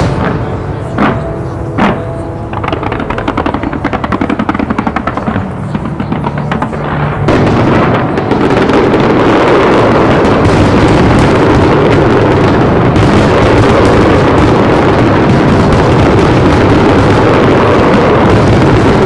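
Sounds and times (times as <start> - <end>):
fireworks bangs and crackle: 0.0 - 19.0.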